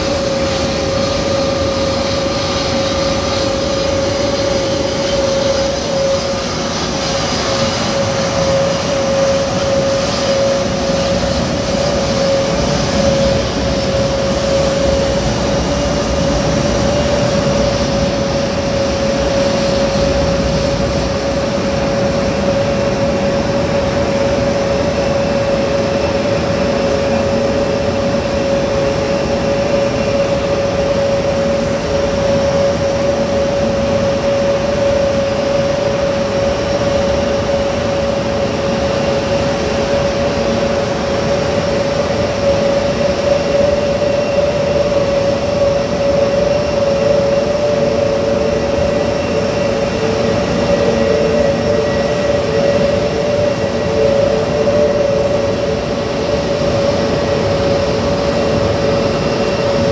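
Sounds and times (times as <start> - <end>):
jet engines idling with whine: 0.0 - 59.9.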